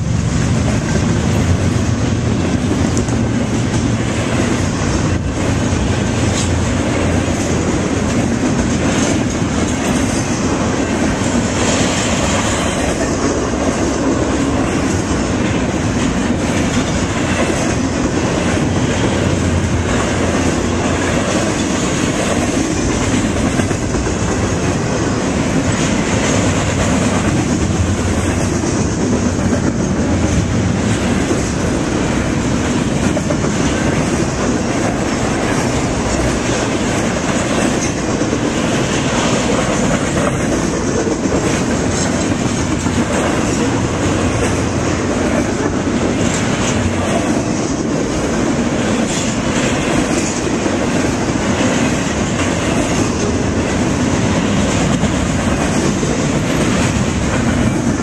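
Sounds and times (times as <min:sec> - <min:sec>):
freight train wheels rolling on rails: 0:00.0 - 0:58.0.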